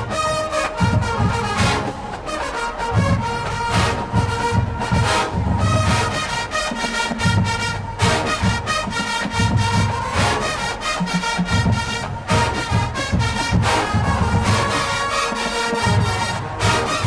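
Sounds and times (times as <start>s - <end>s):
brass horns playing chords: 0.0s - 17.0s
rhythmic drum hits: 0.0s - 17.0s.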